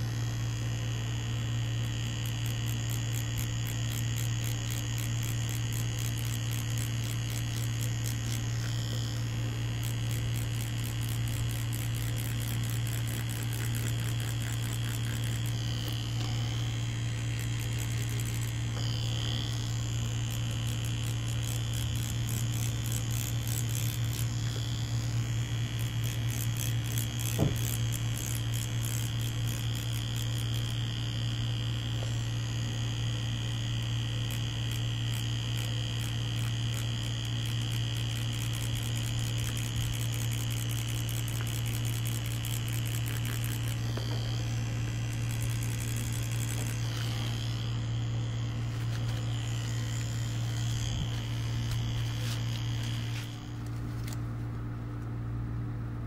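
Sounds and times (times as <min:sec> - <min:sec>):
tattoo machine buzzing: 0:00.0 - 0:55.8.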